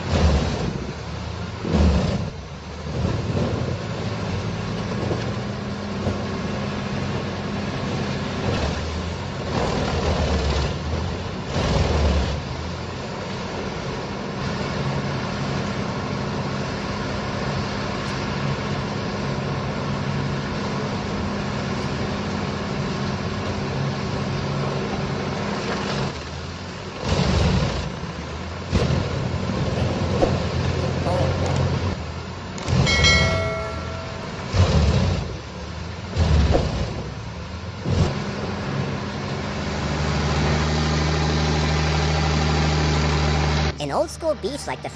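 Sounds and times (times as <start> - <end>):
heavy machine engine running: 0.0 - 44.9.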